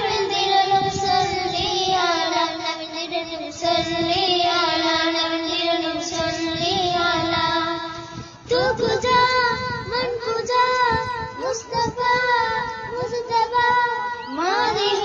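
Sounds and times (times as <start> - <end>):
young person singing: 0.0 - 15.0.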